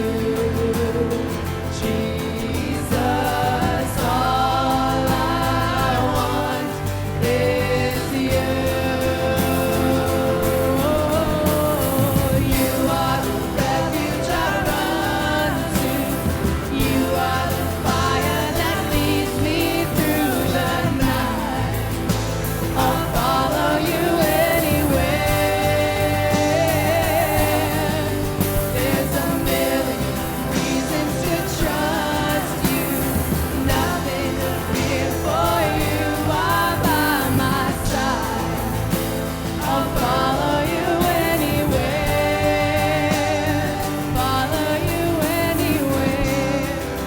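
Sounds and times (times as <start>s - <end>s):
person singing: 0.0s - 47.0s
worship band music: 0.0s - 47.0s
drum hits: 2.4s - 47.0s.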